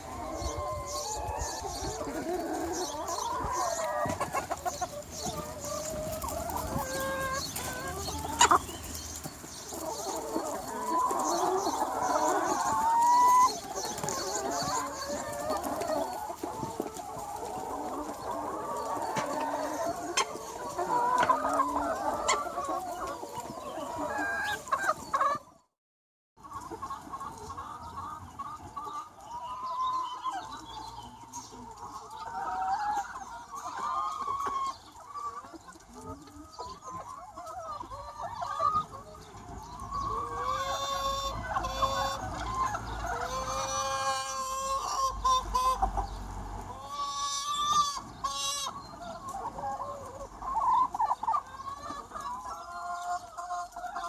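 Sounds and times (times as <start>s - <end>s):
chickens clucking: 0.0s - 25.7s, 26.4s - 54.0s.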